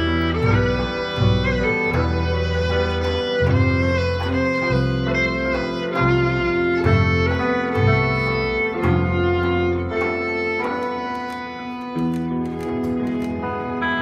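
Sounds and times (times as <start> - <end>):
guitar: 0.0 - 14.0
violin melody: 0.0 - 14.0.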